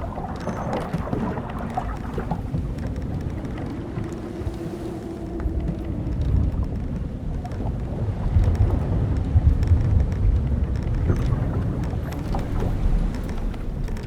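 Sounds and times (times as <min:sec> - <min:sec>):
creaking timbers and rigging: 0:00.0 - 0:14.0
wind and waves rumbling on hull: 0:00.0 - 0:14.0.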